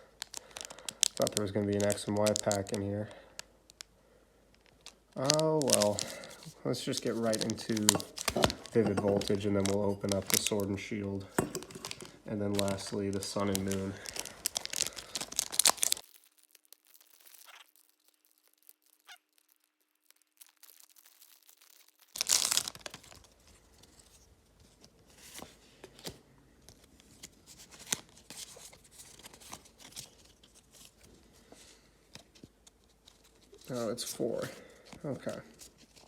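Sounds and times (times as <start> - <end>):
faint rustles and clicks: 0.0 - 36.0
foil wrapper crinkling and tearing: 0.0 - 36.0.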